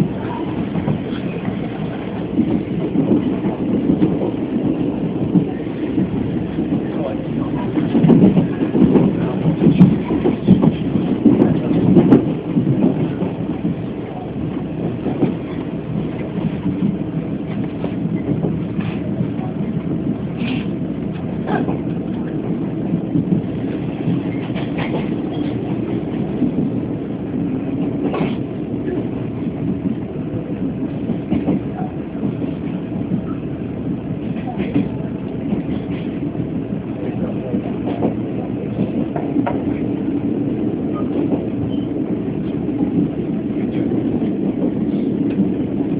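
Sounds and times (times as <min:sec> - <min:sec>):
train rumbling on rails: 0:00.0 - 0:45.9.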